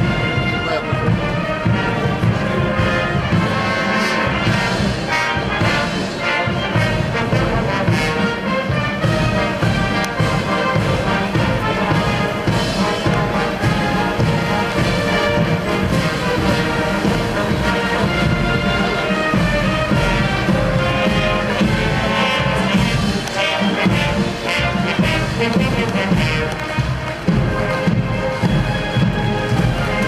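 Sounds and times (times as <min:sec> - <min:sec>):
marching band playing: 0:00.0 - 0:30.0
trumpets and trombones: 0:00.0 - 0:30.0.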